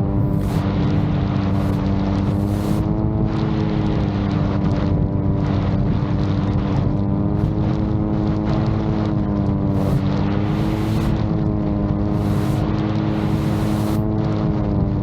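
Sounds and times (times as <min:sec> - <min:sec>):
drone propellers droning: 0:00.0 - 0:15.0
wind buffeting microphone: 0:00.0 - 0:15.0.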